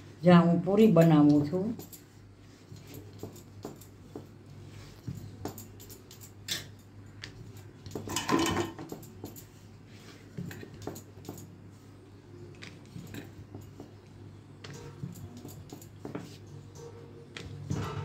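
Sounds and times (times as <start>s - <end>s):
rolling pin rolling dough: 0.7s - 5.6s, 6.5s - 18.0s.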